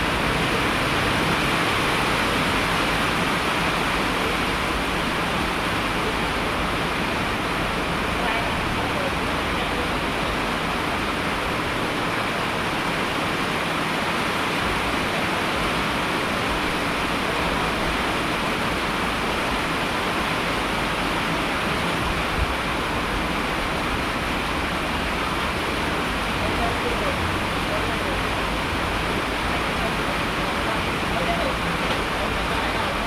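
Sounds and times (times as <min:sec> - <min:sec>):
heavily falling water hiss: 0:00.0 - 0:33.0.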